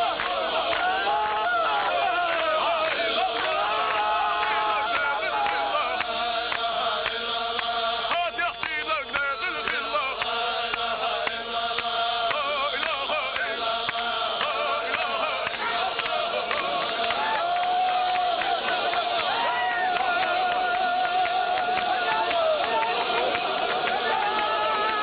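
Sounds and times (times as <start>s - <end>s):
sharp hand claps: 0.0s - 1.2s, 2.2s - 25.0s
men chanting together: 0.0s - 25.0s.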